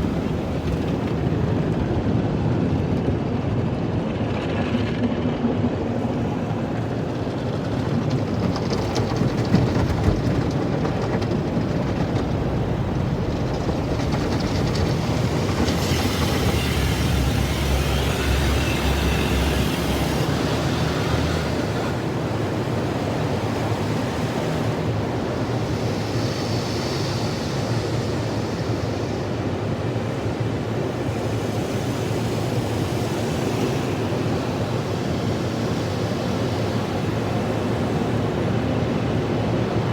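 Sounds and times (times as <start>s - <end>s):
car wash rumbling and hissing: 0.0s - 39.9s.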